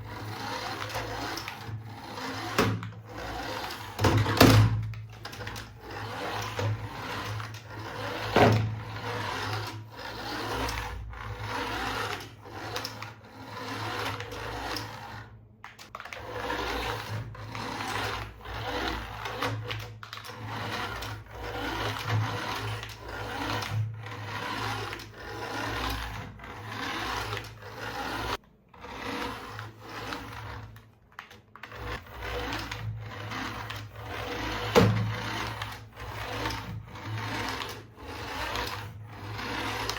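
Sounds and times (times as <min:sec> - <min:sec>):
toy electric motor whirring: 0:00.0 - 0:39.9.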